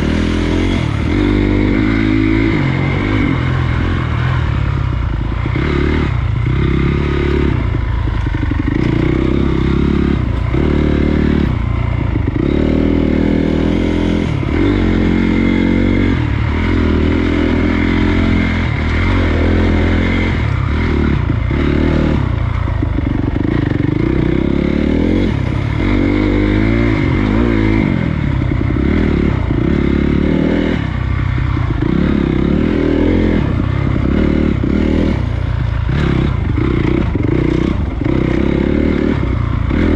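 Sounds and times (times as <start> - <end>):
clatter: 0.0 - 39.9
dirt bike engine revving: 0.0 - 39.9.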